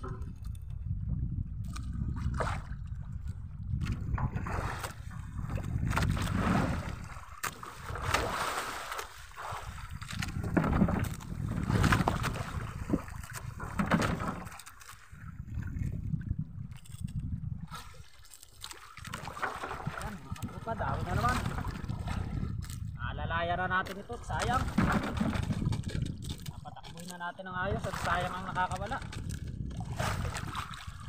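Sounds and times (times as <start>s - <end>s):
wind rumble on microphone: 0.0s - 8.6s, 9.2s - 31.0s
waves slapping against a boat hull: 0.0s - 31.0s.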